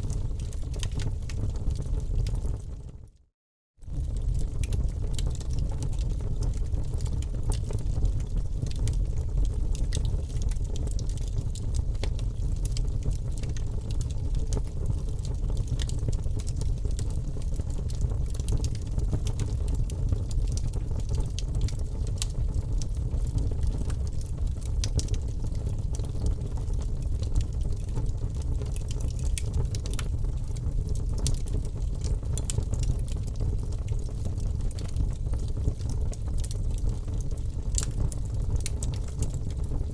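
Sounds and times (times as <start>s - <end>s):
wood fire crackling: 0.0s - 3.2s, 3.8s - 39.9s.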